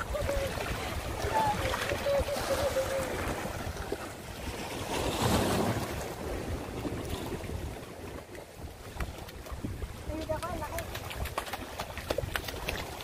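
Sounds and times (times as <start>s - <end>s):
waves breaking over rocks: 0.0s - 13.0s
wind buffeting microphone: 0.0s - 13.0s.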